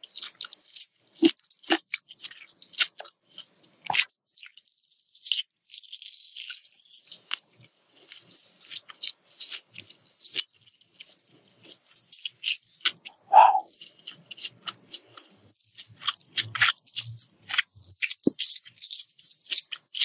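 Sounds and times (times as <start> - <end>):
chewing crispy food: 0.0 - 20.0
wet mouth sounds: 0.1 - 4.6, 5.2 - 20.0.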